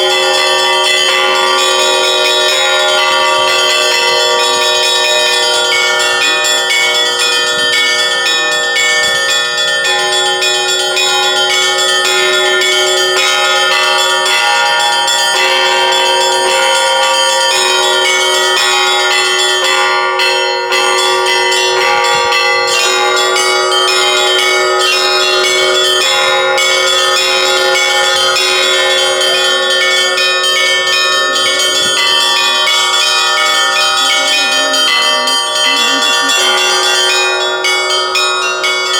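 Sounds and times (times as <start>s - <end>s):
large bells ringing: 0.0s - 38.9s
small high bells striking: 0.0s - 38.9s.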